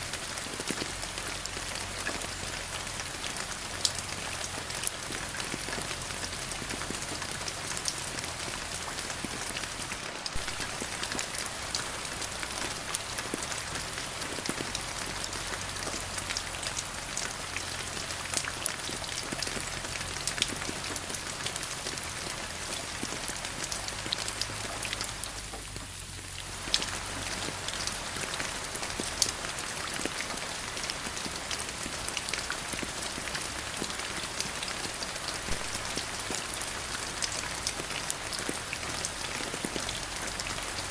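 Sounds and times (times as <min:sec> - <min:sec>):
raindrops striking close by: 0:00.0 - 0:40.9
steady rain falling: 0:00.0 - 0:40.9.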